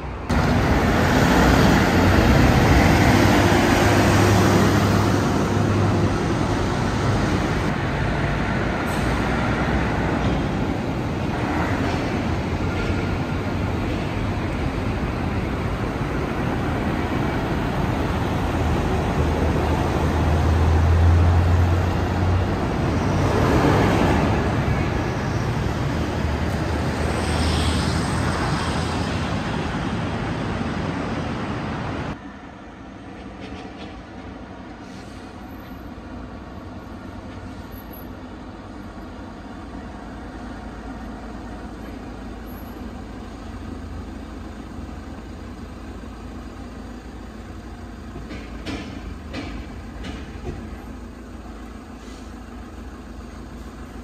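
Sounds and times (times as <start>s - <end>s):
distant traffic: 0.0s - 54.0s
heavy vehicle engine humming: 0.0s - 54.0s.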